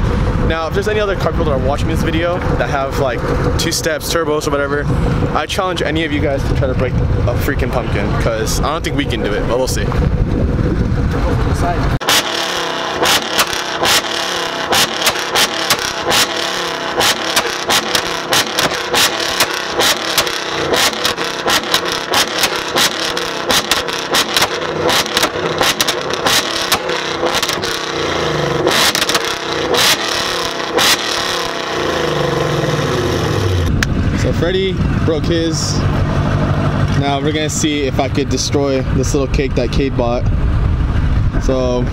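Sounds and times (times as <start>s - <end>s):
car engine at high revs: 0.0s - 41.9s
exhaust popping and banging: 0.0s - 41.9s.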